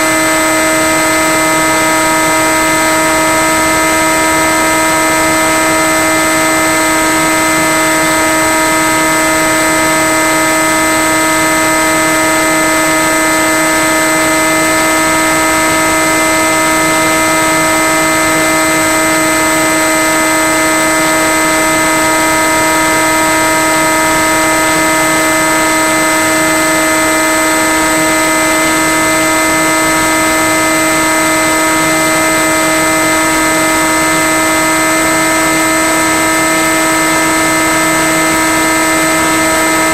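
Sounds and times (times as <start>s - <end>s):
electric motor and propeller buzz: 0.0s - 39.9s.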